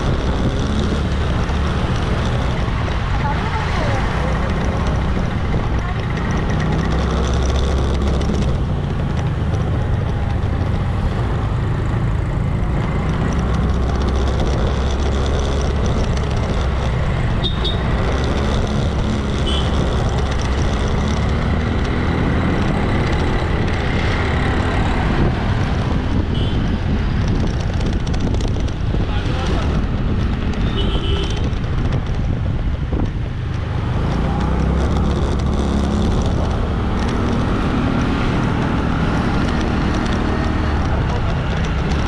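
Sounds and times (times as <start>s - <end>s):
motorbike engine running: 0.0s - 42.0s
road and traffic noise: 0.0s - 42.0s.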